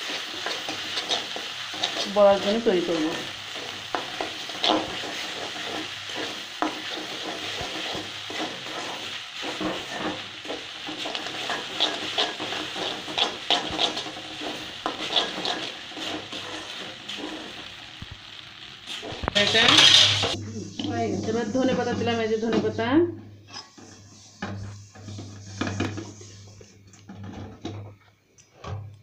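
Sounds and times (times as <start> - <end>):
metal spatula scraping a pan: 0.0 - 17.8, 18.9 - 22.8, 23.4 - 27.8
food sizzling in hot oil: 0.0 - 27.4.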